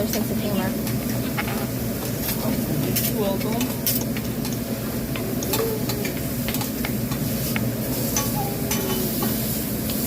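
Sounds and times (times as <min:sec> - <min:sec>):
food sizzling: 0:00.0 - 0:10.0.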